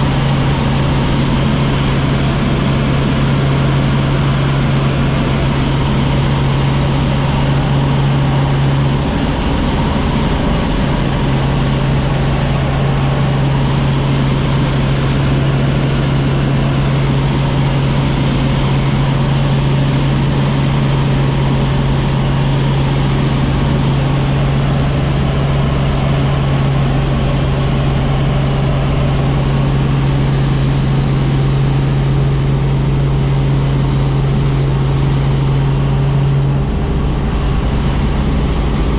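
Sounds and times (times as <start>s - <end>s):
vehicle engine drone: 0.0s - 38.9s.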